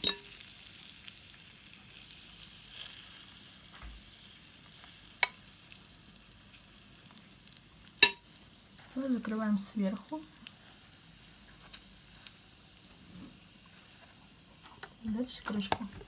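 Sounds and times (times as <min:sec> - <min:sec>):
butter sizzling: 0:00.0 - 0:16.0.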